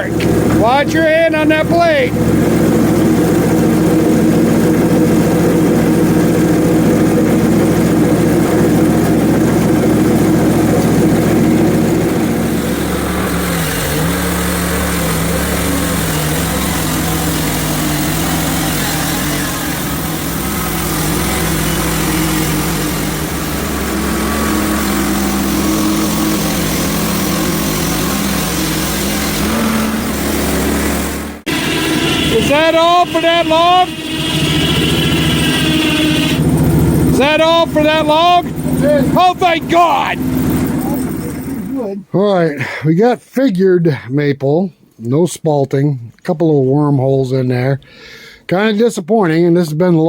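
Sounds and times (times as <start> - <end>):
band saw blade cutting log: 0.0 - 41.8
sawmill gas engine running: 0.0 - 41.9.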